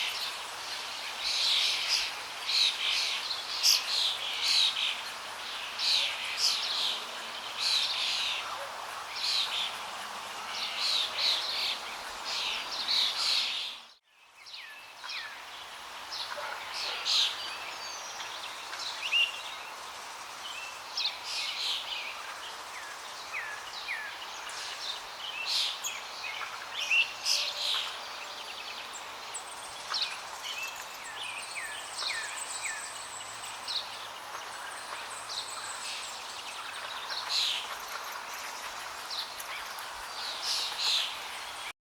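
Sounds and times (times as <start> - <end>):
songbirds chirping: 0.0 - 41.8.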